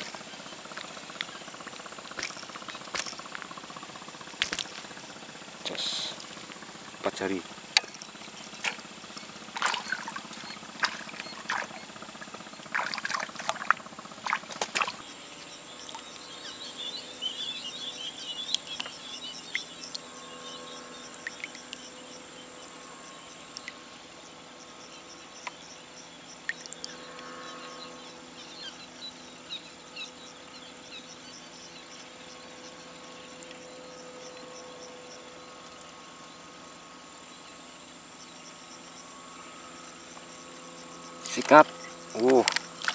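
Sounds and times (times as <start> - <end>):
insects chirping and trilling: 0.0 - 42.9.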